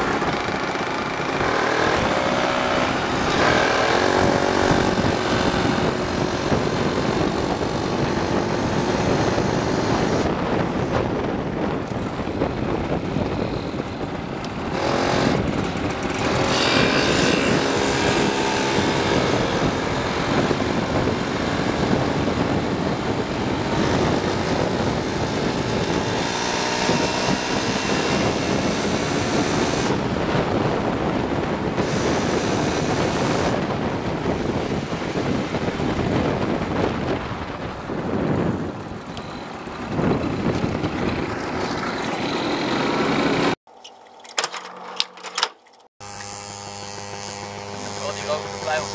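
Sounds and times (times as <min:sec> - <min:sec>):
wind rushing over microphone: 0:00.0 - 0:43.6
two-stroke moped engine: 0:00.0 - 0:48.9.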